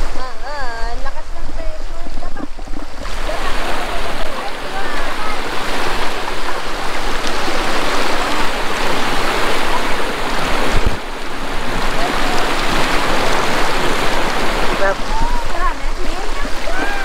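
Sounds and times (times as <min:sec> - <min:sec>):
stream water rushing over rock: 0:00.0 - 0:17.0.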